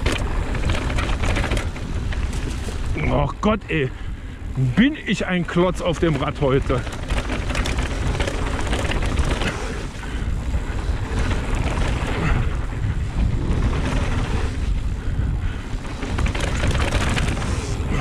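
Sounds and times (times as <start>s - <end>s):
bike rattles and clicks: 0.0s - 18.0s
bike tyre rumble on dirt: 0.0s - 18.0s
wind buffeting microphone: 0.0s - 18.0s.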